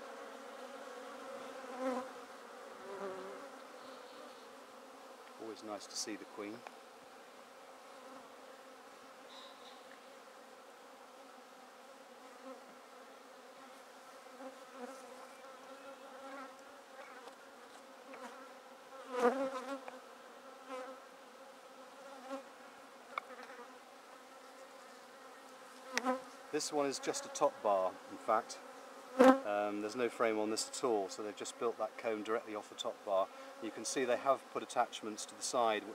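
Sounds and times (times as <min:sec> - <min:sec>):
honeybees buzzing: 0:00.0 - 0:35.9.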